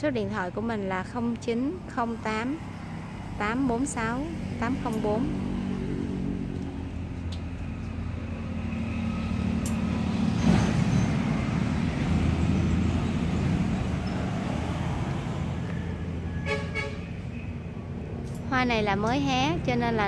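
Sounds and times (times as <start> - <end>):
road traffic engine rumble: 0.0 - 20.0.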